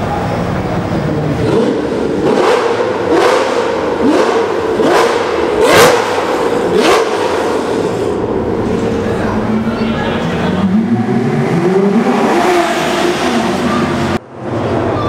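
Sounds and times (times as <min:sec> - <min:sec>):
engine revving in tunnel: 0:00.0 - 0:15.0.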